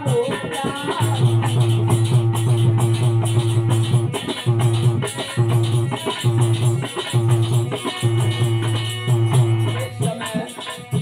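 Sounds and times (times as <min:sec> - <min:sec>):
harmonium: 0:00.0 - 0:11.0
rattling percussion: 0:00.0 - 0:11.0.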